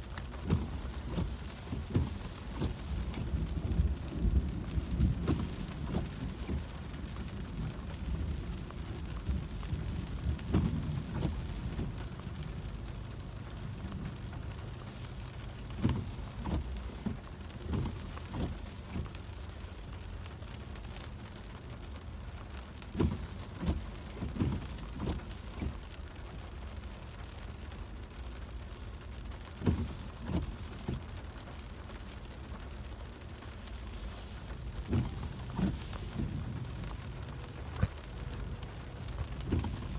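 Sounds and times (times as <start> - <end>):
car rumbling on wet road: 0.0 - 39.9
rain drumming on car roof: 0.0 - 39.9.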